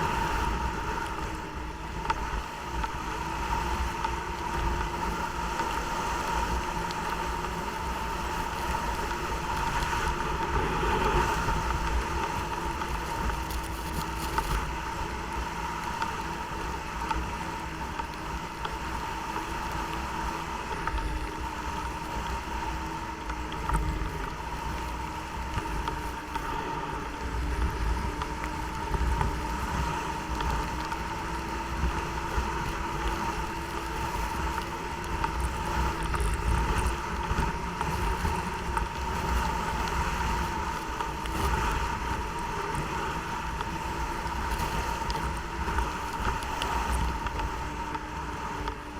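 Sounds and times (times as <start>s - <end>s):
snowmobile engine droning: 0.0s - 48.9s
wind noise: 0.0s - 48.9s.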